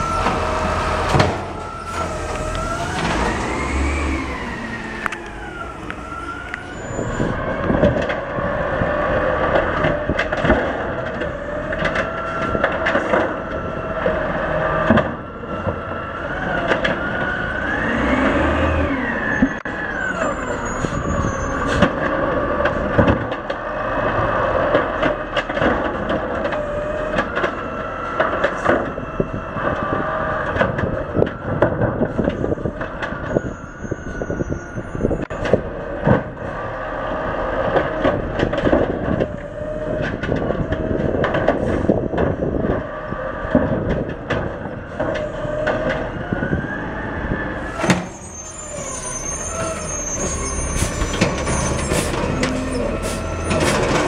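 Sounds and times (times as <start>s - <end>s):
garbage truck engine whine: 0.0s - 54.0s
truck clunks: 0.0s - 54.0s
truck running noise: 0.0s - 54.0s.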